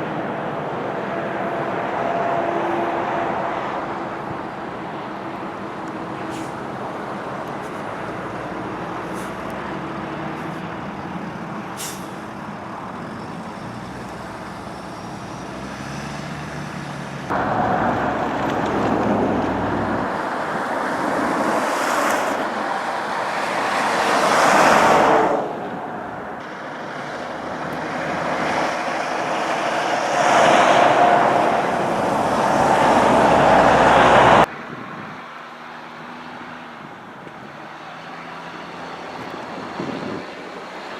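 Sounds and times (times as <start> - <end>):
heavy vehicles passing: 0.0 - 40.9
road noise rush: 0.0 - 40.9.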